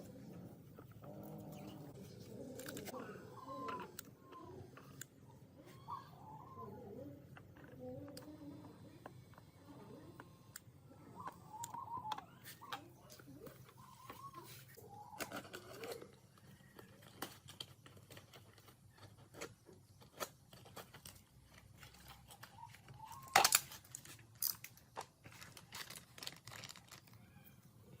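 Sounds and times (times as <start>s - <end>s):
crinkling: 0.0s - 5.9s, 6.8s - 28.0s.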